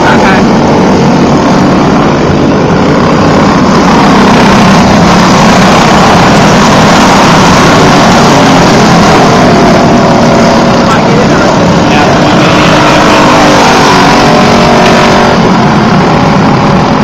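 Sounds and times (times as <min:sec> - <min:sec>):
kart engines at high revs: 0:00.0 - 0:17.0.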